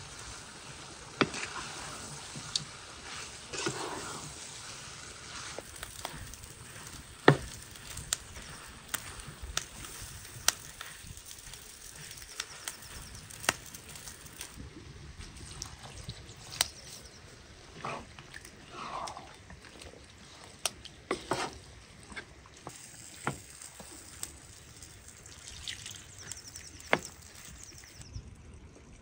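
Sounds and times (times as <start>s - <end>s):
meat and peppers sizzling: 0.0s - 28.1s.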